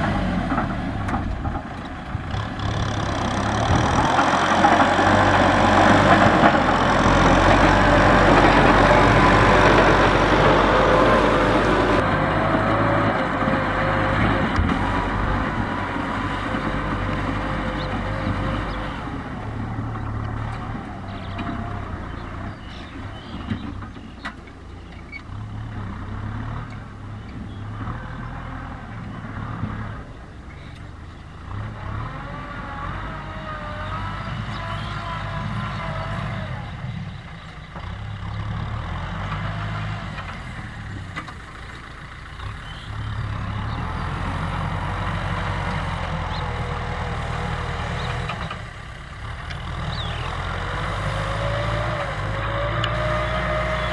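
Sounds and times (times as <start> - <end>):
tractor engine rumbling: 0.0 - 53.9.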